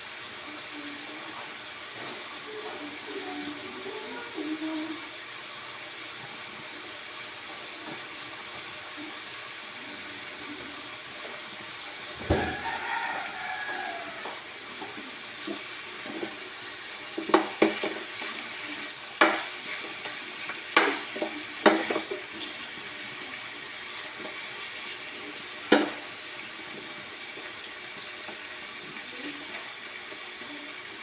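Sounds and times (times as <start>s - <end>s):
pork hissing in a pot: 0.0s - 31.0s.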